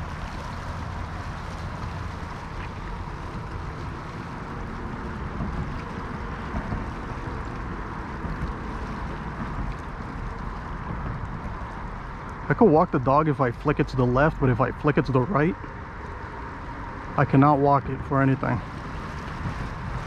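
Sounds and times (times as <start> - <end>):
waves splashing against rocks: 0.0 - 20.0
wind buffeting microphone: 0.0 - 20.0.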